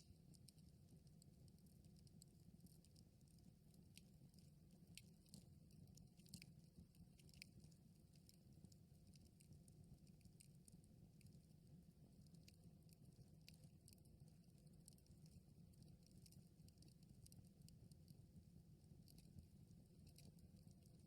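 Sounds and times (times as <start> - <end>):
low rumble of burning: 0.0 - 21.0.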